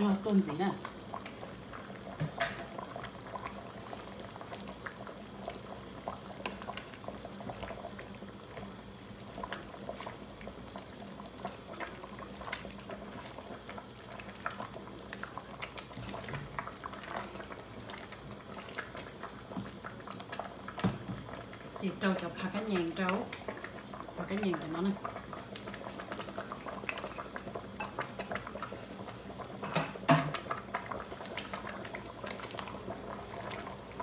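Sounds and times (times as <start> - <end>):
low steady hum: 0.0 - 34.0
soup boiling with bubbles popping: 0.0 - 34.0.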